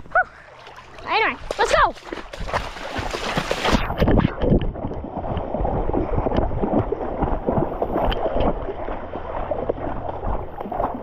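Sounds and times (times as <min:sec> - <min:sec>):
creek water sloshing: 0:00.0 - 0:11.0.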